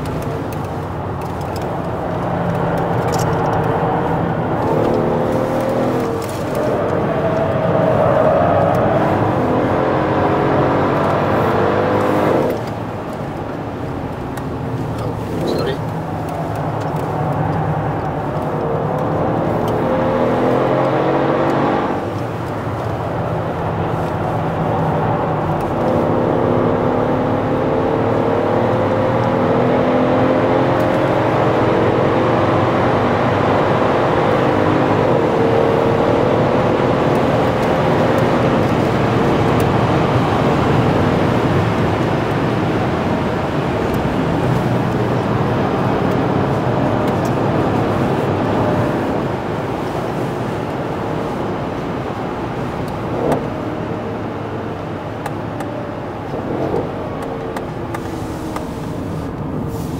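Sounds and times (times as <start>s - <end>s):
car engine accelerating: 0.0s - 59.9s
tyre and road noise: 0.0s - 59.9s.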